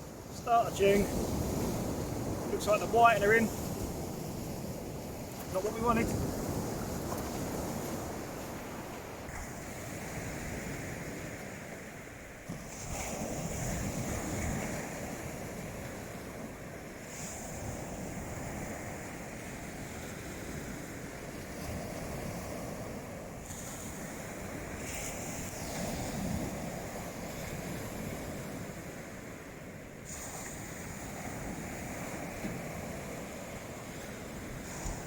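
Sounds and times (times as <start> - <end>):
wind buffeting microphone: 0.0 - 29.4
sea waves washing onto shore: 0.0 - 35.0.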